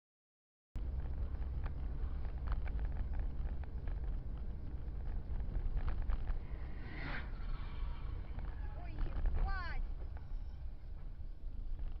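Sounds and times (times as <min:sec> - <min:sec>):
low rumble of car driving: 0:00.8 - 0:12.0.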